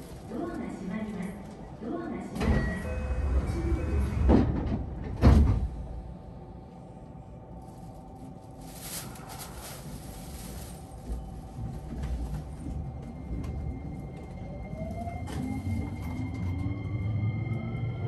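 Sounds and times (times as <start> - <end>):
train car low rumble: 0.0 - 18.0.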